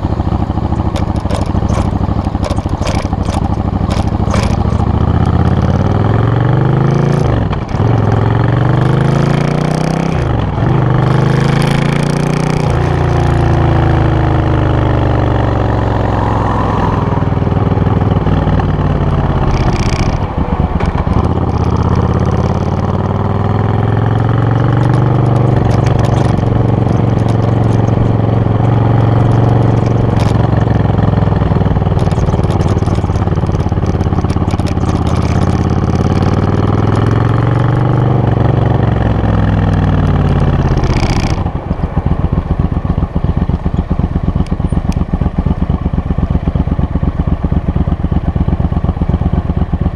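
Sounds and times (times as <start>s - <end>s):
motorcycle engine running loudly: 0.0s - 49.9s.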